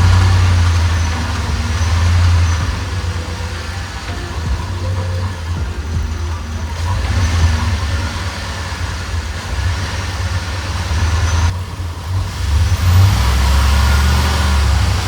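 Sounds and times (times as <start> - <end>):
engine rumble: 0.0 - 15.0
road noise: 0.0 - 15.0.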